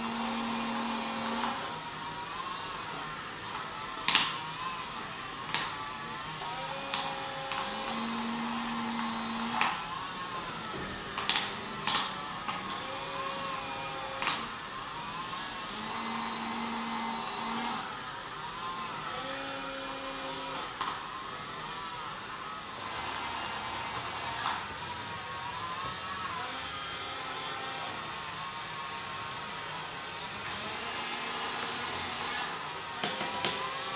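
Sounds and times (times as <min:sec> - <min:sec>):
small electric motors whirring: 0:00.0 - 0:33.9.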